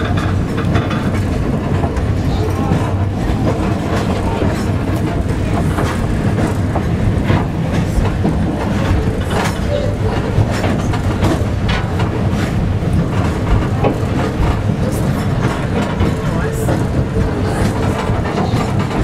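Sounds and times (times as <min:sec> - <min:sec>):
clicks and knocks of track: 0:00.0 - 0:19.0
rumble of wheels on rail: 0:00.0 - 0:19.0.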